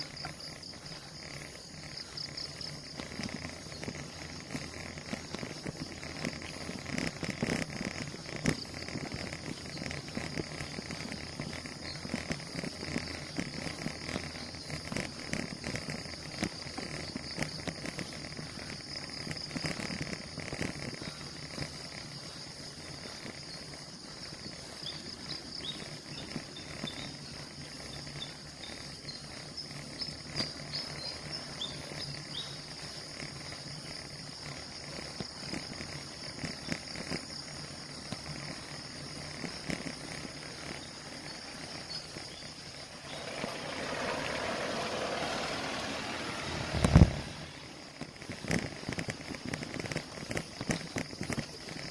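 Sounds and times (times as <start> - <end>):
insects chirring: 0.0 - 51.9
road and wind noise: 0.0 - 51.9
small chirps: 0.0 - 51.9.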